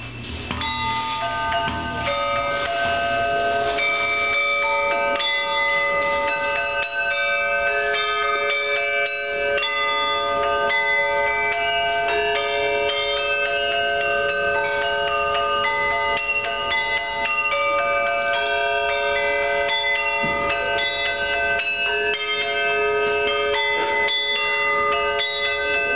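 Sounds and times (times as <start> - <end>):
singing bowls ringing: 0.0 - 25.9.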